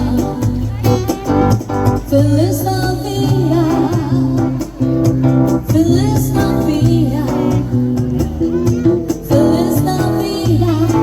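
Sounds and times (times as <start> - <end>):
amplified backing music with guitar: 0.0 - 11.0
girl singing with vibrato: 0.0 - 11.0.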